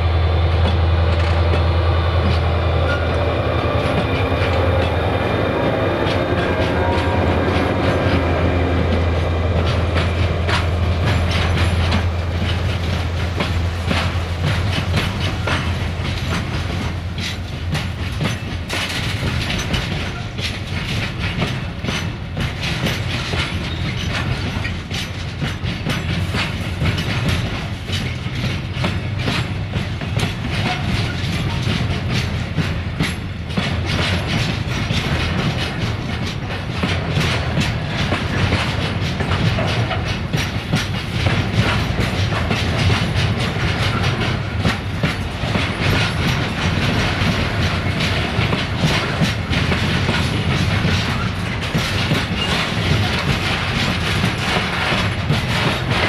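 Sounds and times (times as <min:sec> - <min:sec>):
train wheels clickety-clack: 0:00.0 - 0:56.0
knocks and rattles: 0:05.9 - 0:56.0.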